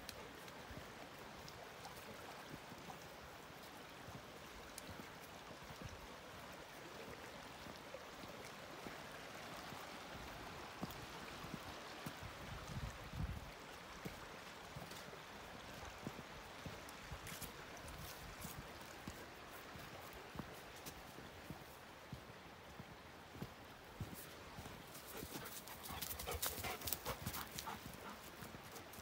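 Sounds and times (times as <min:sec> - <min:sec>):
creek rushing: 0:00.0 - 0:29.0.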